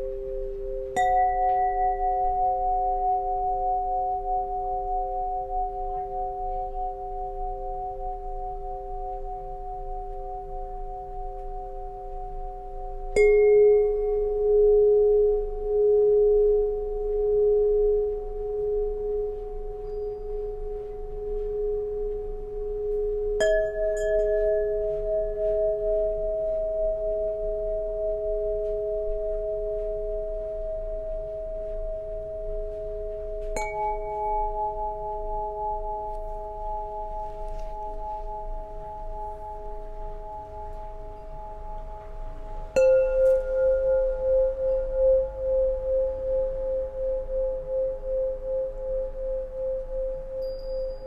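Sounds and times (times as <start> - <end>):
tuning pipes ringing: 0.0 - 51.0.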